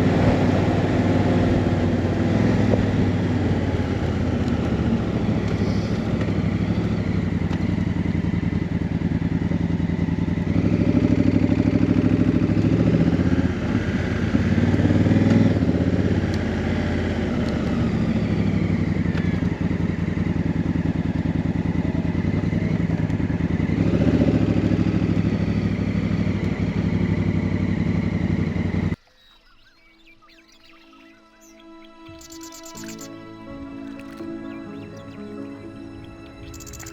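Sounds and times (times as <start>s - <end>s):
motorcycle engine running: 0.0s - 29.0s, 32.2s - 36.9s.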